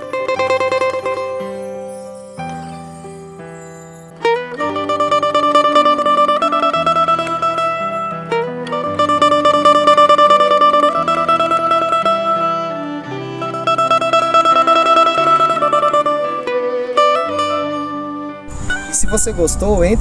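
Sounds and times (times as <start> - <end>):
cavaquinho melody: 0.0 - 20.0.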